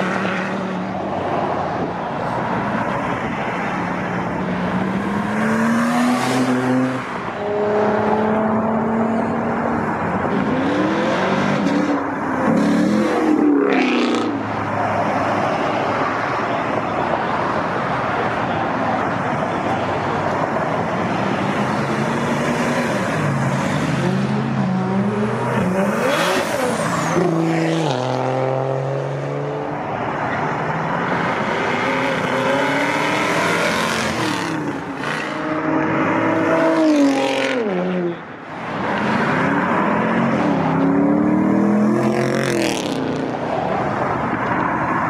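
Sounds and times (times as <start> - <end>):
cars accelerating hard: 0.0 - 45.0.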